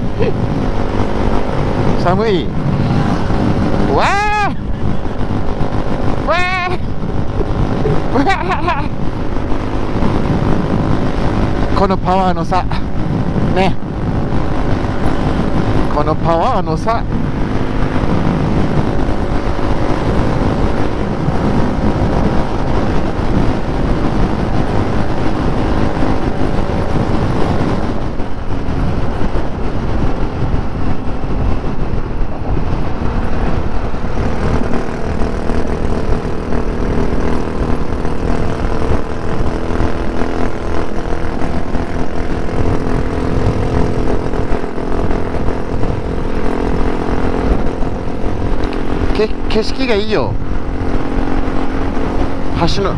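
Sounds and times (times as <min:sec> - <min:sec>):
wind on microphone: 0:00.0 - 0:52.9.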